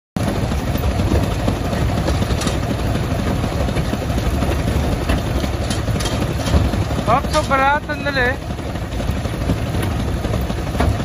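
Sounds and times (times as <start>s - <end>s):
tractor engine running: 0.2s - 11.0s.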